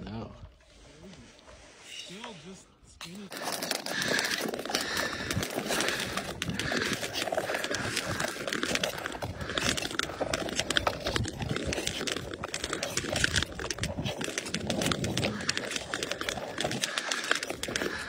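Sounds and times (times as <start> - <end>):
ice skate blades scraping: 0.9 - 18.0
ice crackling and ticking: 3.0 - 18.0.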